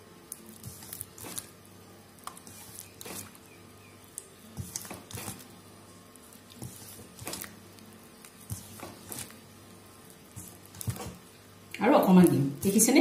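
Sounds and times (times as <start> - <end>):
batter squelching in bowl: 0.3 - 1.6, 2.2 - 11.5.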